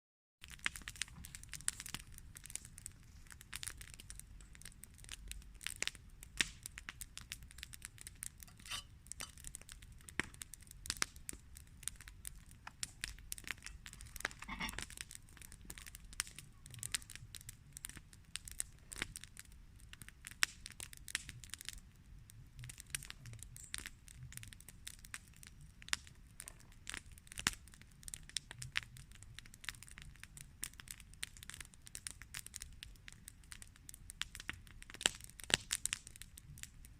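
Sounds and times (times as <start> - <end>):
campfire crackling and popping: 0.4 - 36.9
low rumble of burning: 0.4 - 36.9.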